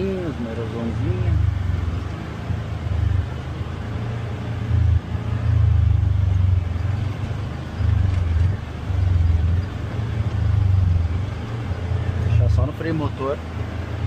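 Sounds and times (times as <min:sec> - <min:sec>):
utility vehicle engine rumbling: 0:00.0 - 0:14.0.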